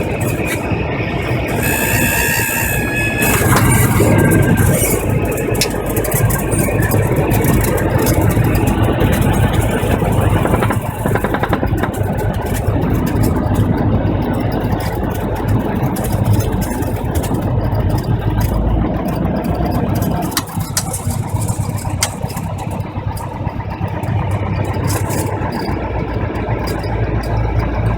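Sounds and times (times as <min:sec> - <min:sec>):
propeller plane engine rumble: 0:00.0 - 0:27.9.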